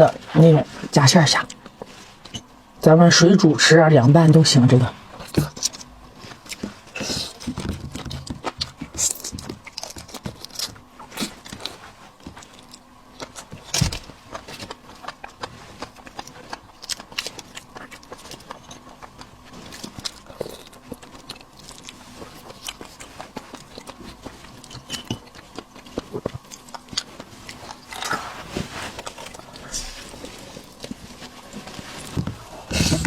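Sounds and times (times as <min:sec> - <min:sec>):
person chewing shrimp: 0:05.2 - 0:33.0.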